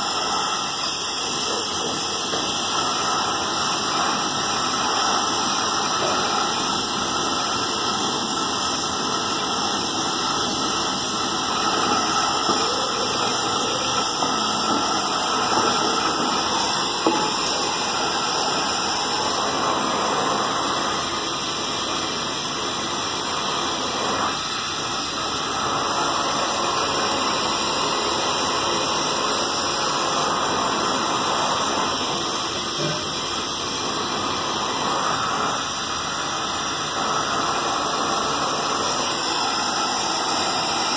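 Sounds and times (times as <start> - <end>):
welding torch flame hissing: 0.0 - 40.9.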